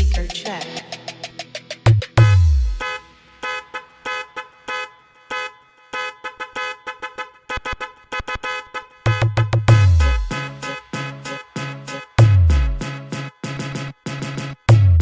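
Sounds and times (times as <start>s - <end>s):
dance music horn stabs: 2.1s - 15.0s.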